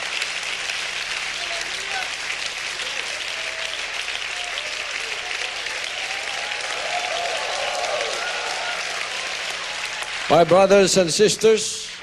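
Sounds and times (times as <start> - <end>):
congregation applauding: 0.0 - 12.0.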